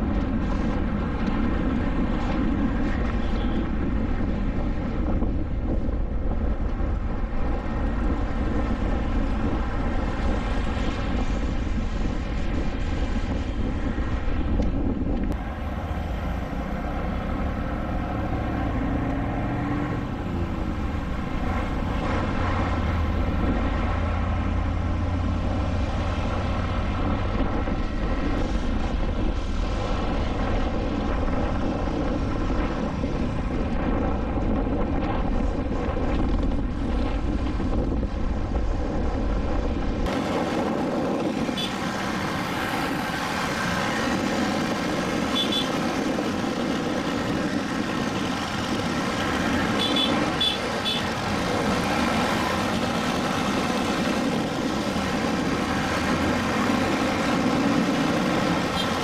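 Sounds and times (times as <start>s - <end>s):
traffic: 0.0s - 59.0s
wind rumble: 0.0s - 59.0s.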